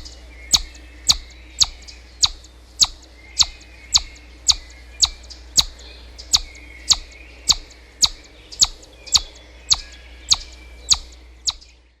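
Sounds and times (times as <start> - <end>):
bird chirping sharply: 0.0 - 11.8
faint softer bird calls: 0.0 - 12.0.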